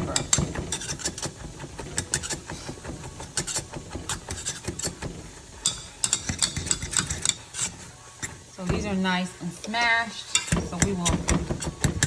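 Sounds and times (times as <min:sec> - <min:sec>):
potato masher scraping a metal pan: 0:00.0 - 0:09.0, 0:09.7 - 0:12.0.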